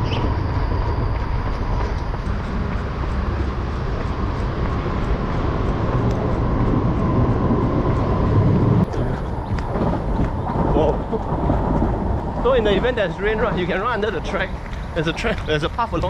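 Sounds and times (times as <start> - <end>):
faint hum: 0.0 - 15.6
train rumbling overhead: 0.0 - 16.0.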